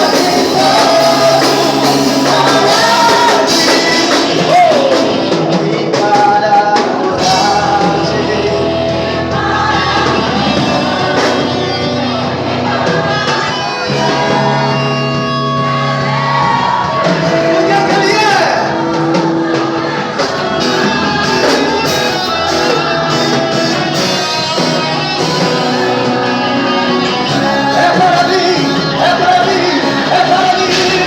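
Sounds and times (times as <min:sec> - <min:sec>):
band playing worship music: 0:00.0 - 0:31.0
voices singing: 0:00.0 - 0:31.0.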